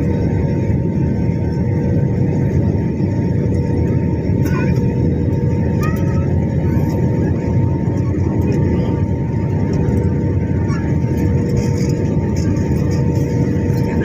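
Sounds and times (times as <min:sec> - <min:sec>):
jet engine and airflow rumble: 0:00.0 - 0:14.0.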